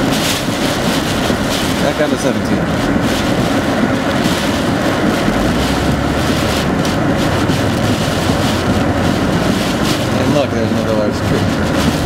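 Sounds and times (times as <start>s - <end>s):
heavy rain and wind on car: 0.0s - 12.0s
road rumble: 0.0s - 12.0s
tyre spray: 0.0s - 12.0s.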